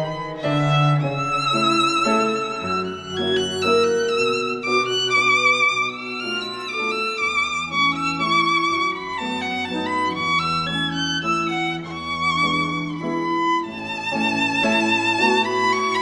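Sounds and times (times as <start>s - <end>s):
sustained accompaniment: 0.0s - 14.7s
violin melody with vibrato: 0.0s - 16.0s.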